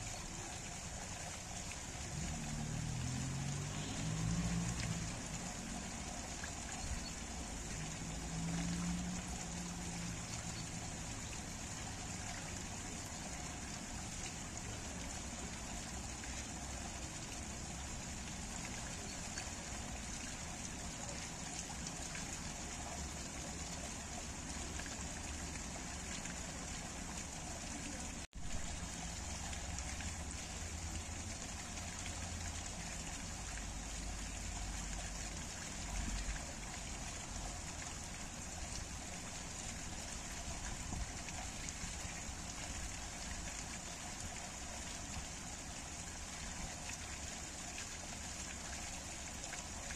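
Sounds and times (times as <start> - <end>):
water pouring onto rocks: 0.0 - 49.9
water trickling along a gutter: 0.0 - 49.9.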